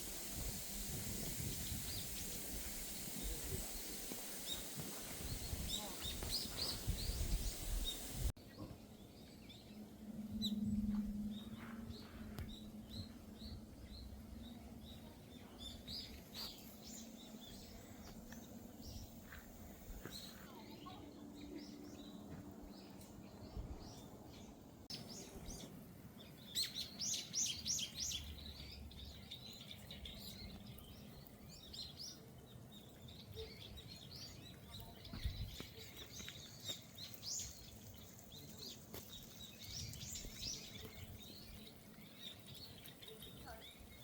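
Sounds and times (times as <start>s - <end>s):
small birds chirping: 0.0s - 9.8s, 10.4s - 44.0s.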